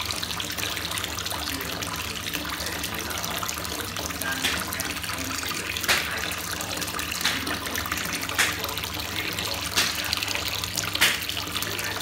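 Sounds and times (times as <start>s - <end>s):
water splashes: 0.0s - 12.0s.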